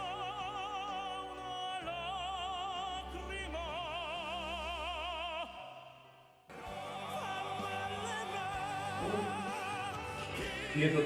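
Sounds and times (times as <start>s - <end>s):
men singing opera-style: 0.0s - 6.0s, 6.6s - 11.0s.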